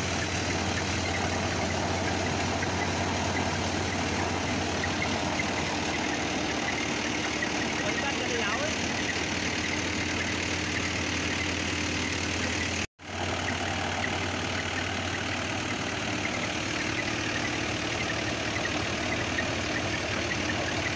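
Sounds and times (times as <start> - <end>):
flour mill humming: 0.0 - 20.9.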